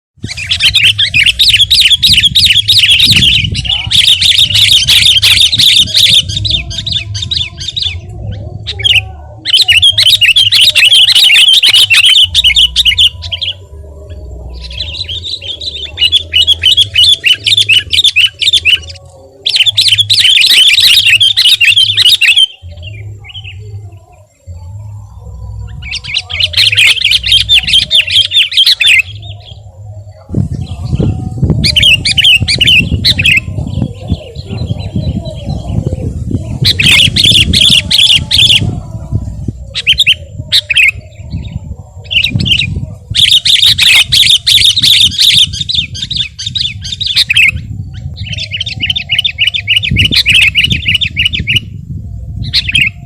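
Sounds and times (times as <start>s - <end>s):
bulbul chattering song: 0.2s - 53.0s.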